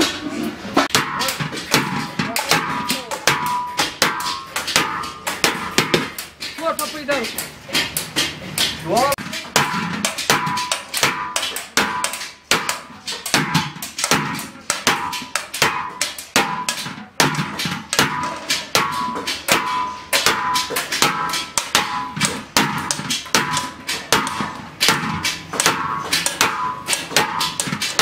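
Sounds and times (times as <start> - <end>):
hammer striking sheet metal: 0.0 - 28.0.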